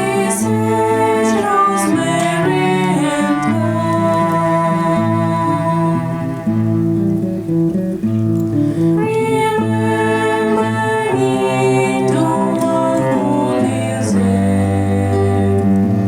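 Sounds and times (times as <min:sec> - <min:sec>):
quartet playing held notes: 0:00.0 - 0:16.0.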